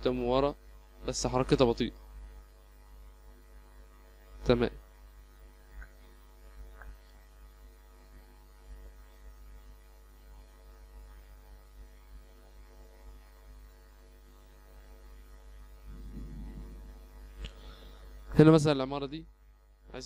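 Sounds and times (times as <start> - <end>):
low electrical mains hum: 0.0 - 20.0.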